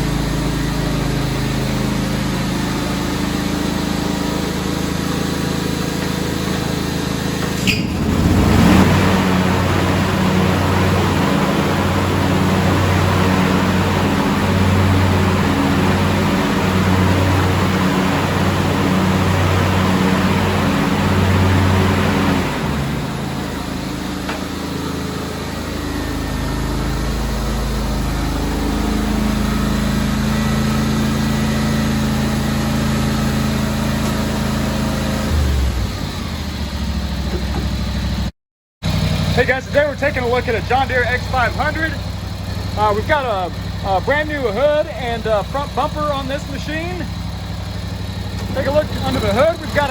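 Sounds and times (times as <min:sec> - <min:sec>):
garden tractor engine running: 0:00.0 - 0:49.9.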